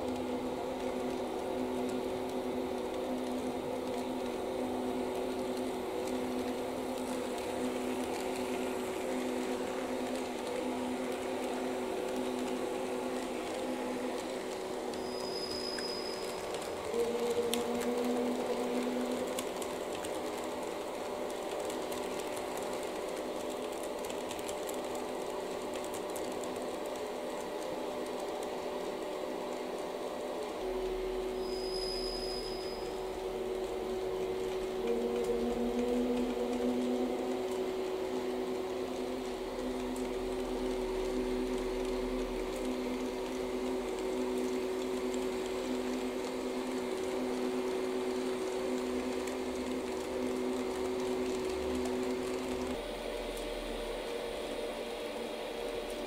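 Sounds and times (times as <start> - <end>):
model train motor whine: 2.7 - 26.5, 30.6 - 54.1.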